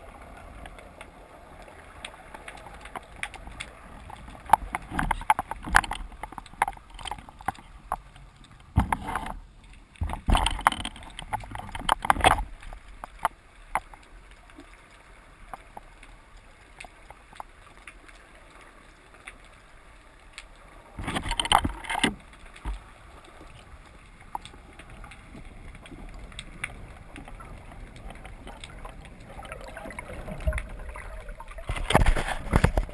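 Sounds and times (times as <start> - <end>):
small clicks: 0.2 - 30.8.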